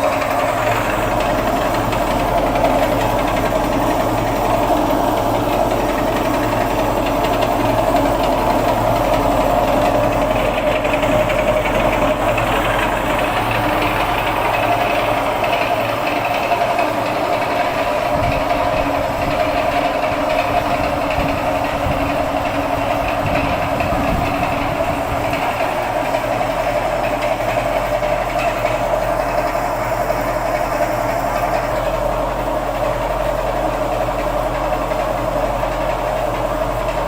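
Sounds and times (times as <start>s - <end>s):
generator mechanical hum: 0.0s - 37.0s.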